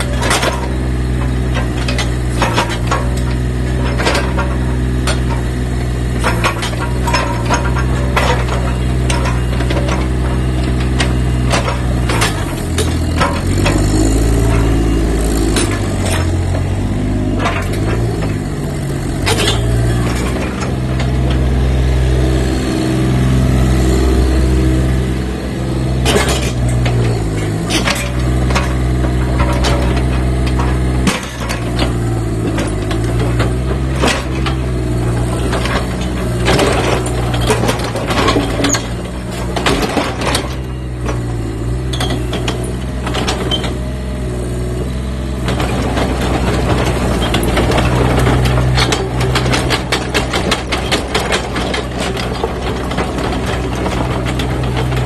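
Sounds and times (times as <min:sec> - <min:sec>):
sharp knocks and clanks: 0:00.0 - 0:21.5, 0:26.0 - 0:44.0, 0:45.4 - 0:55.0
excavator diesel engine running: 0:00.0 - 0:55.0.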